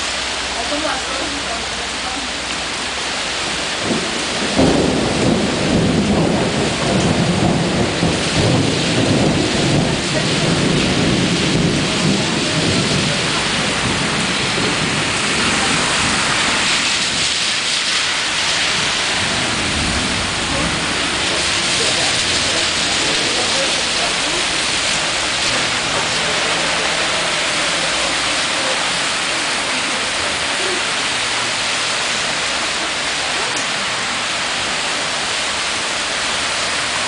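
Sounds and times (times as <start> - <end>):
cars driving through water: 0.0 - 37.0
floodwater rushing: 0.0 - 37.0.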